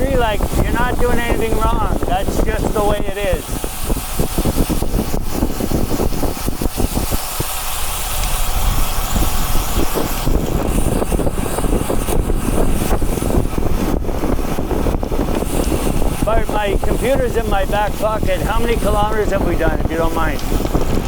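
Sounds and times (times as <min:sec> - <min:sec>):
bicycle road noise: 0:00.0 - 0:21.0
wind on microphone: 0:00.0 - 0:21.0.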